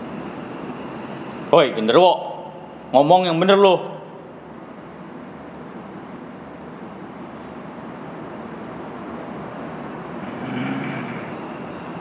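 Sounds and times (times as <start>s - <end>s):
crickets trilling: 0.0s - 12.0s
higher insect trill: 0.0s - 12.0s.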